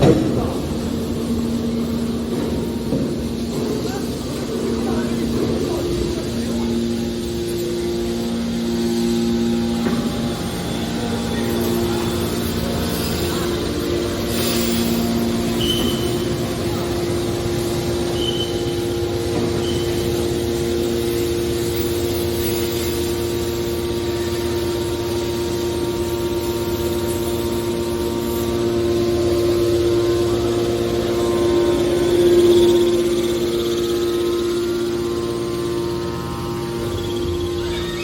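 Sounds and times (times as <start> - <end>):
baler mechanical hum: 0.0 - 38.0
hydraulic whine: 0.0 - 38.0.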